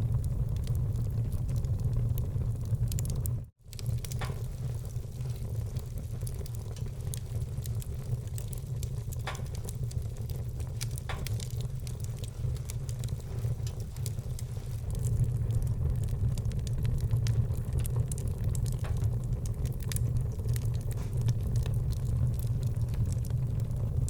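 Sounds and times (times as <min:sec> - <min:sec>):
burning logs popping: 0:00.0 - 0:24.0
fire rumbling and crackling: 0:00.0 - 0:24.0.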